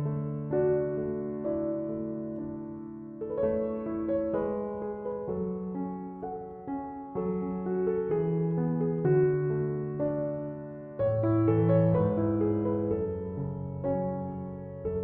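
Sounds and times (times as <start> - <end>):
slow gentle piano piece: 0.0 - 15.0.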